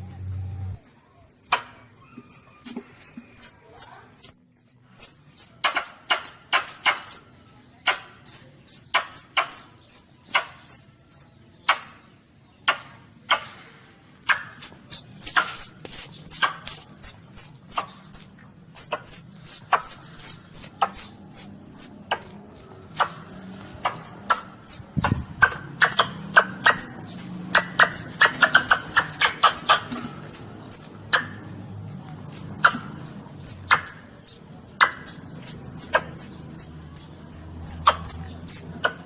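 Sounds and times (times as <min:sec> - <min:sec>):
young civets squeaking: 0:02.0 - 0:11.3, 0:14.3 - 0:39.0.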